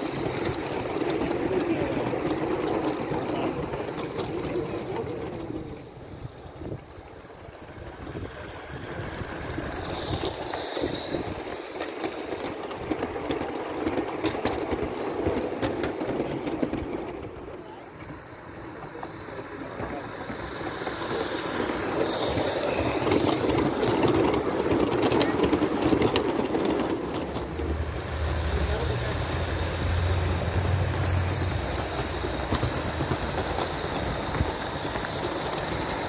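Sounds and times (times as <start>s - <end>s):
model train running on track: 0.0s - 36.0s
wheels clicking over rail joints: 0.0s - 36.0s.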